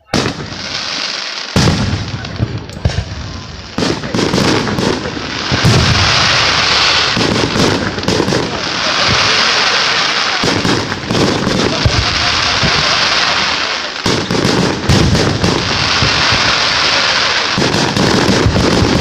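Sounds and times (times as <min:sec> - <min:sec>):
fireworks crackling hiss: 0:00.0 - 0:19.0
fireworks shells booming: 0:00.0 - 0:19.0.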